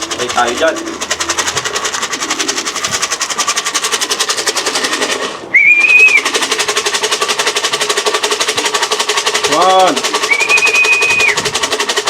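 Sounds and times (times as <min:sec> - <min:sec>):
fast rattle of clicks: 0:00.0 - 0:12.0.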